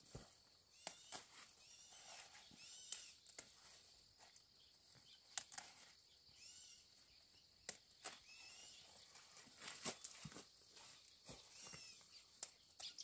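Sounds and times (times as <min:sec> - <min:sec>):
bird calls: 0:00.7 - 0:03.5, 0:04.6 - 0:13.0.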